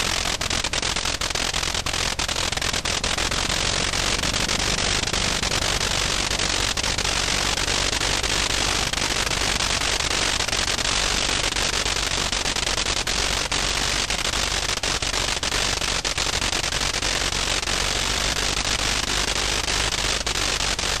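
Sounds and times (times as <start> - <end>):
rotary aero engine running: 0.0 - 21.0.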